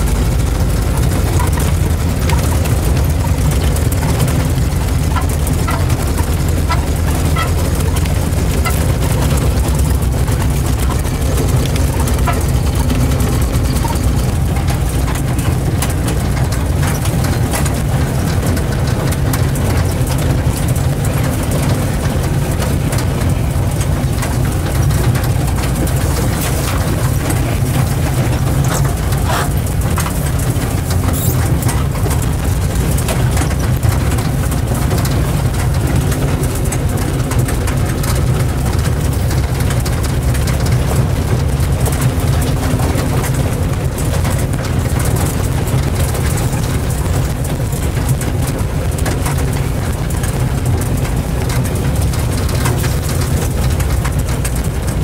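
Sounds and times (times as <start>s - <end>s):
car engine running under load: 0.0s - 55.0s
knocks and rattles in cab: 0.0s - 55.0s.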